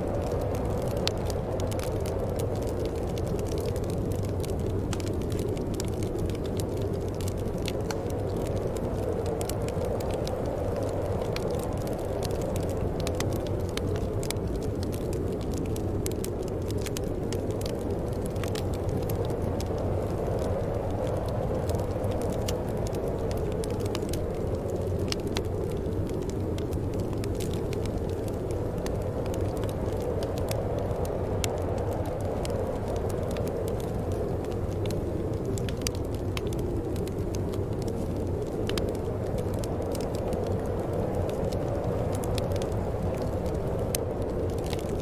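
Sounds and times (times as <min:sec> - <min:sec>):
low rush of flames: 0:00.0 - 0:45.0
wood fire crackling: 0:00.0 - 0:45.0.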